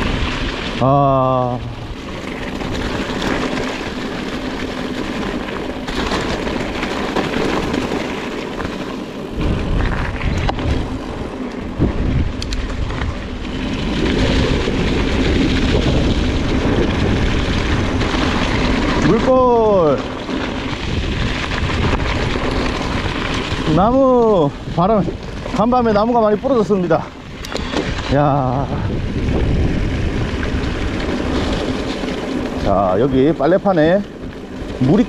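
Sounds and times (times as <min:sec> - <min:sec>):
bike tyres on gravel: 0:00.0 - 0:35.0
wind rumbling on microphone: 0:00.0 - 0:35.0.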